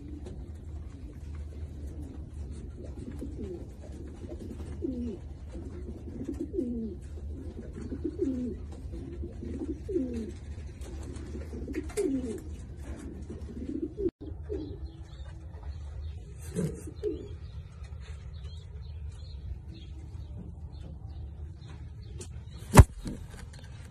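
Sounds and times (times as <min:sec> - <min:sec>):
pigeons cooing: 0:00.0 - 0:21.2.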